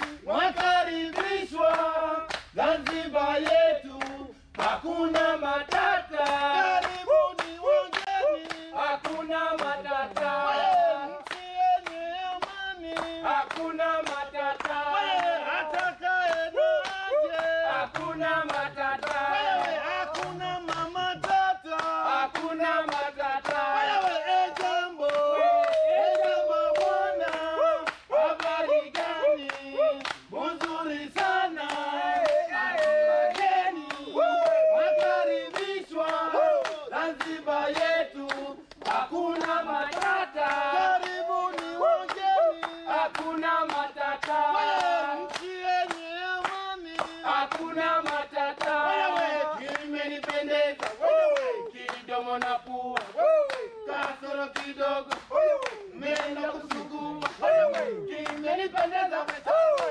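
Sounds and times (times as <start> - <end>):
hands clapping in rhythm: 0.0 - 59.9
men singing together: 0.0 - 59.9.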